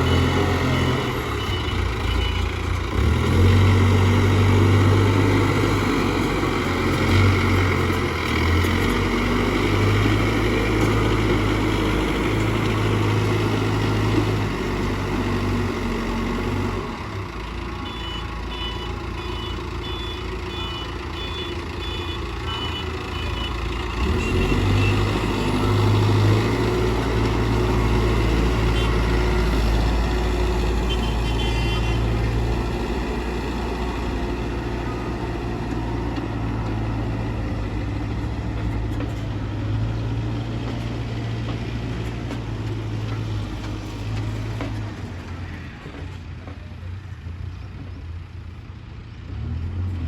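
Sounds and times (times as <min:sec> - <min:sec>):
backhoe diesel engine revving: 0:00.0 - 0:46.5.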